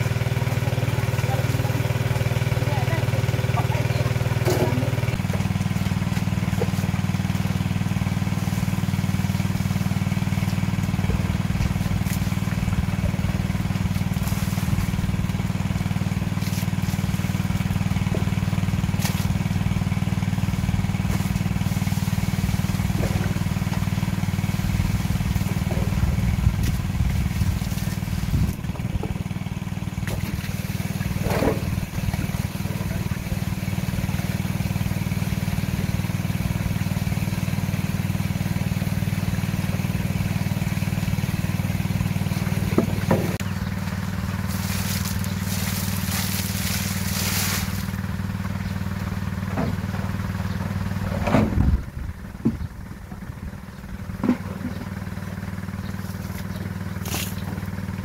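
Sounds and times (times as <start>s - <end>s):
small engine droning: 0.0s - 58.0s.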